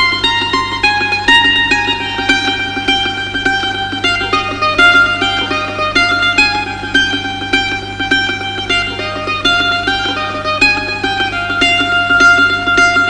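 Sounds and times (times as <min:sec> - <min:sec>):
plucked-string melody: 0:00.0 - 0:13.0.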